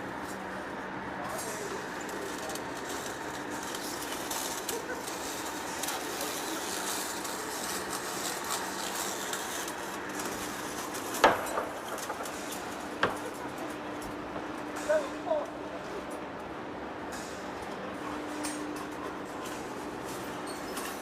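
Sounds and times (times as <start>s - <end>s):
lathe humming and hissing: 0.0s - 20.4s.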